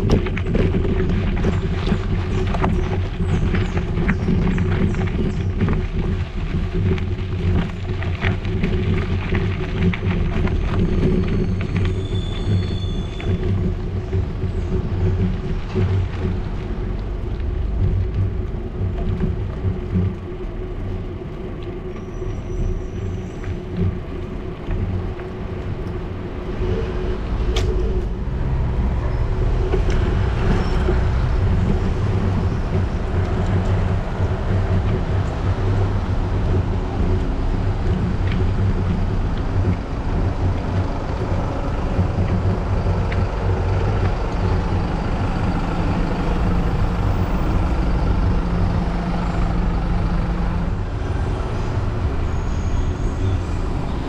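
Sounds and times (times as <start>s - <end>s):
city bus passing: 0.0s - 54.0s
street traffic rumble: 0.0s - 54.0s.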